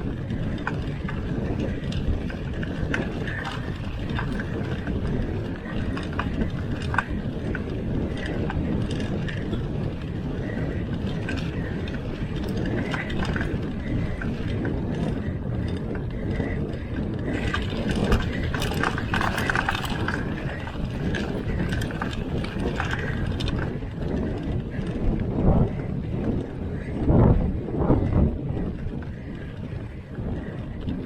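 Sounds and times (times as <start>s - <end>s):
bike clicks and rattles: 0.0s - 31.0s
bike tyres rumbling on rough ground: 0.0s - 31.0s.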